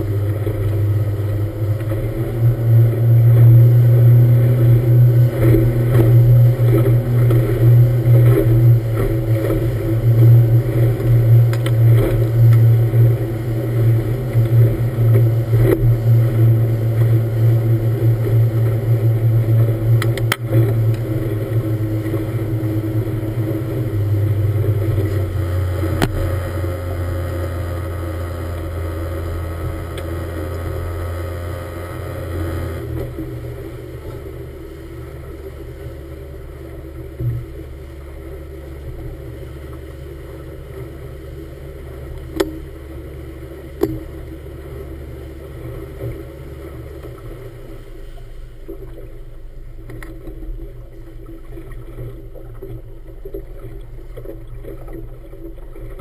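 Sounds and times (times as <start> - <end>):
motorboat engine droning: 0.0 - 56.0
water lapping: 0.0 - 56.0
water rushing along hull: 0.0 - 56.0.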